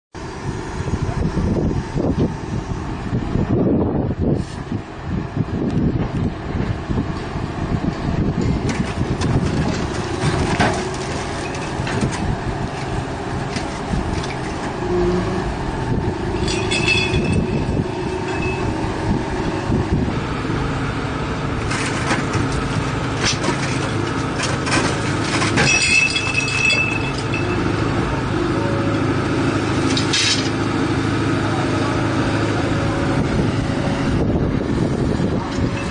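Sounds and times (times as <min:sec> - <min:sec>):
excavator engine running: 0:00.2 - 0:35.9.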